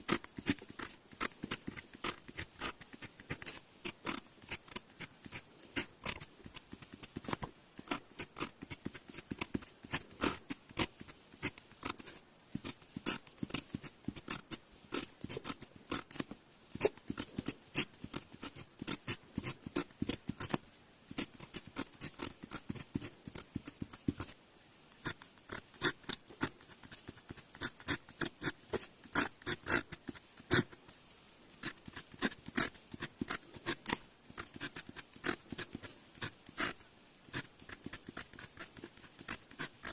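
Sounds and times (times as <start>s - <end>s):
pen nib scratching on paper: 0.0s - 30.9s, 31.6s - 39.9s.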